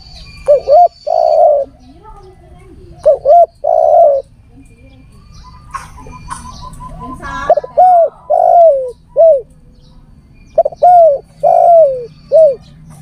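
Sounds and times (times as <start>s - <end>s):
dove cooing: 0.0s - 9.6s, 10.5s - 13.0s.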